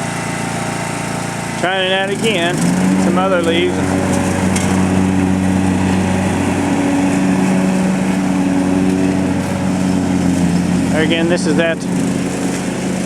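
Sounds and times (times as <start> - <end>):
lawn mower engine running: 0.0 - 13.0
mower blade chopping leaves: 0.0 - 13.0.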